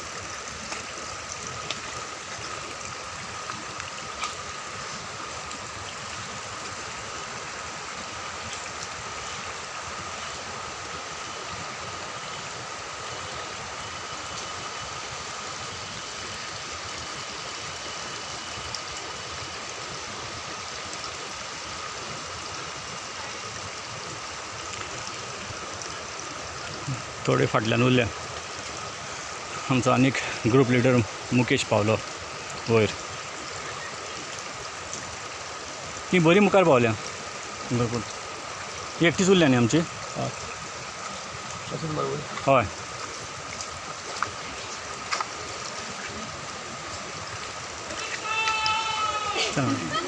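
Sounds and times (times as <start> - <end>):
stream and waterfall rushing: 0.0 - 50.0.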